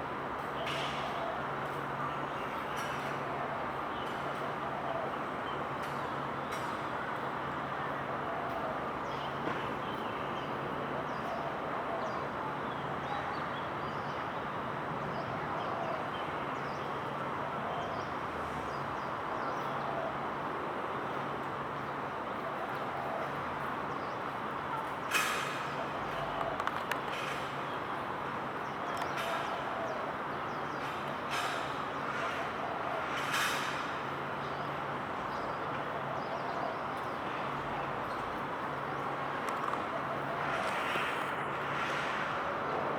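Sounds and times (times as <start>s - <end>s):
traffic hum: 0.0s - 42.9s.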